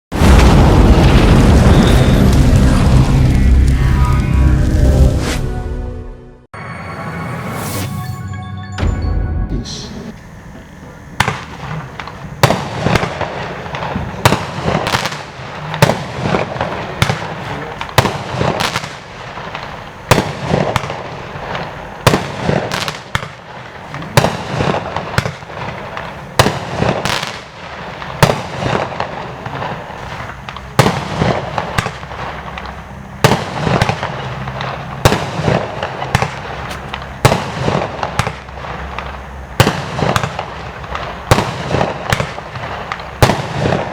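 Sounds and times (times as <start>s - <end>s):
firework bangs: 0.1s - 4.3s, 9.8s - 43.9s
firework crackling: 0.1s - 5.4s, 9.9s - 43.9s.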